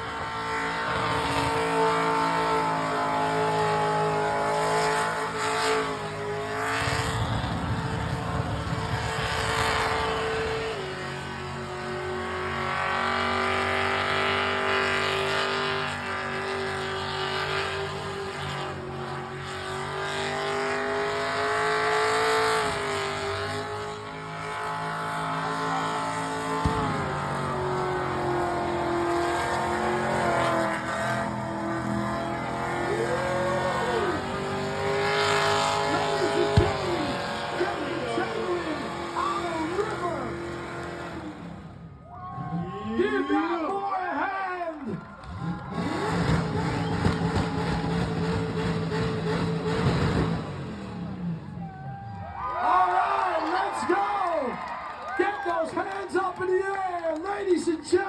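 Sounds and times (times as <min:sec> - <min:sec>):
engine at high revs: 0:00.0 - 0:42.5, 0:45.2 - 0:51.6.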